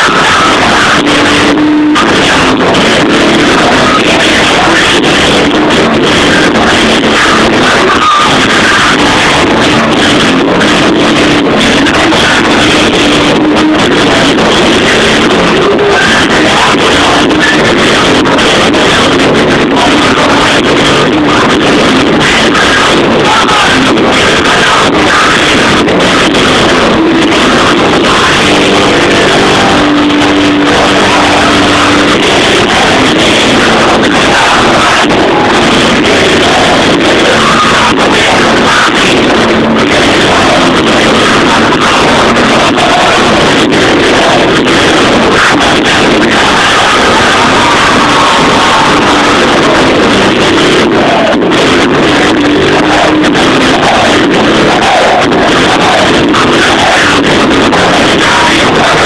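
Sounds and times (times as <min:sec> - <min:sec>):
loud dense music: 0:00.0 - 0:59.0.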